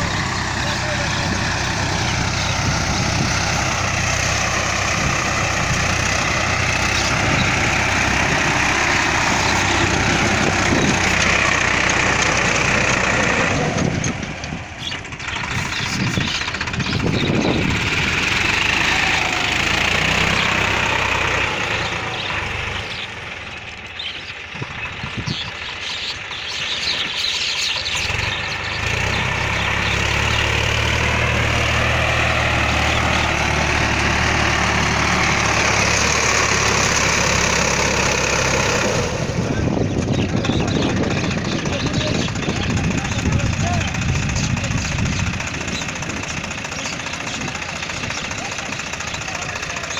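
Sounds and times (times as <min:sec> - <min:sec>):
diesel tractor engine running: 0:00.0 - 0:49.9.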